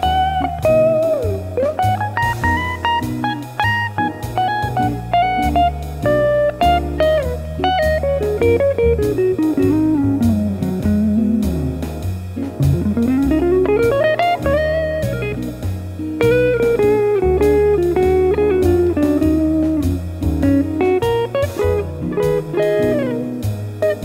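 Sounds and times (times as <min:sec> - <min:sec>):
electric guitar melody: 0:00.0 - 0:24.0
low bass line: 0:00.0 - 0:24.0.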